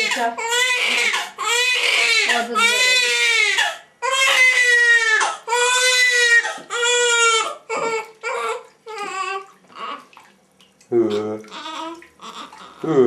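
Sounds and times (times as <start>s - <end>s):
infant crying: 0.0s - 10.1s, 11.5s - 13.0s.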